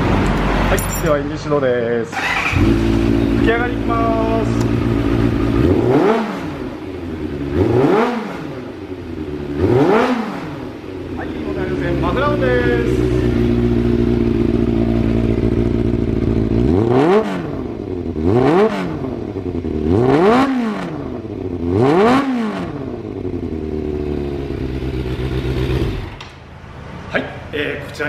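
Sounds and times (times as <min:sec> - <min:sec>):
motorcycle engine idling and revving: 0:00.0 - 0:27.2.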